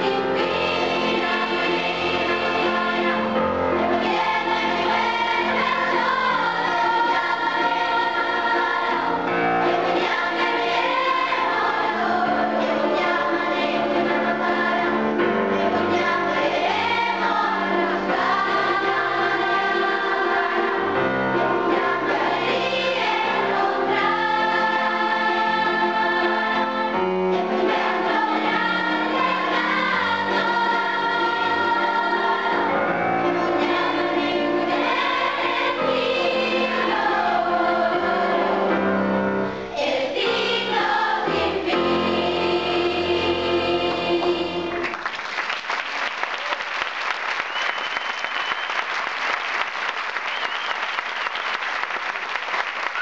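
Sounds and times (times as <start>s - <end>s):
youth choir singing: 0.0s - 45.0s
grand piano: 0.0s - 53.0s.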